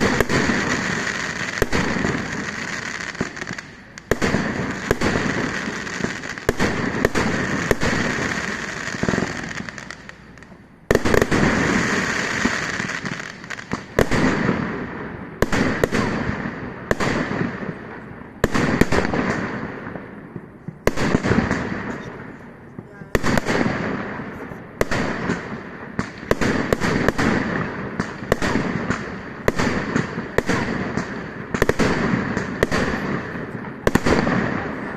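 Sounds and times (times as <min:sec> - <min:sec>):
fireworks bursting: 0:00.0 - 0:34.9.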